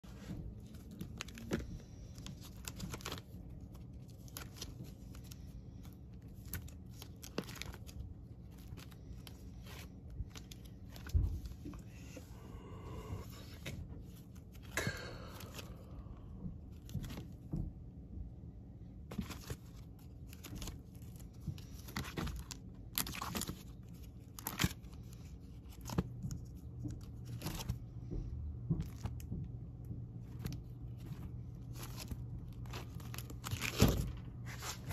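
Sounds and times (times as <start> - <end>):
low steady hum: 0.0 - 34.9
plastic sleeves crinkling: 0.1 - 17.6, 18.9 - 34.9.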